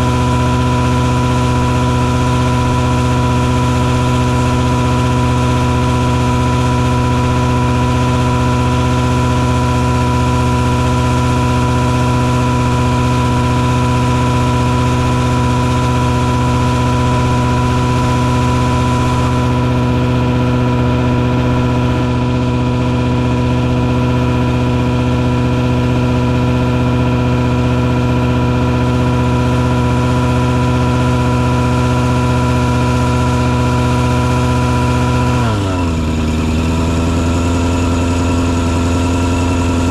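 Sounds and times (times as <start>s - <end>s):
engine running loud: 0.0s - 39.9s
steady high whine: 0.0s - 39.9s.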